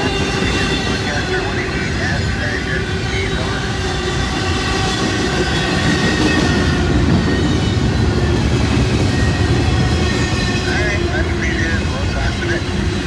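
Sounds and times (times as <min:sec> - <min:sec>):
freight train rumbling over rails: 0:00.0 - 0:13.0.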